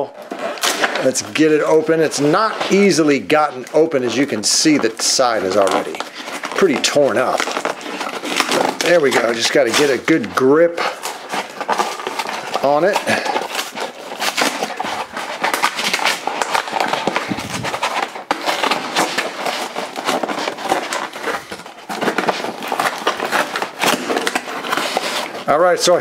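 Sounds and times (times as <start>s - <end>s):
cardboard ripping and crackling: 0.0s - 26.0s.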